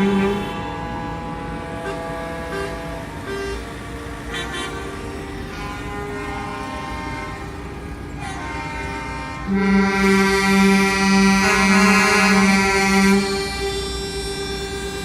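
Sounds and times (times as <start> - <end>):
loud horn pulsing in short blasts: 0.0 - 3.6, 4.2 - 13.9
truck horns sounding: 0.0 - 15.0.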